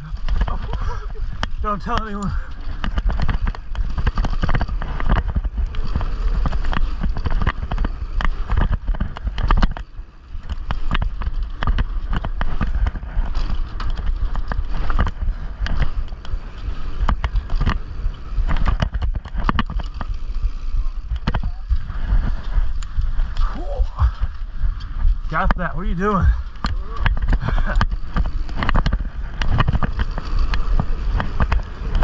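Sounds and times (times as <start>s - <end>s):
tyres rumbling on dirt: 0.0s - 32.0s
wind buffeting: 0.0s - 32.0s
camera rattling in loose mount: 0.2s - 20.3s, 26.4s - 32.0s.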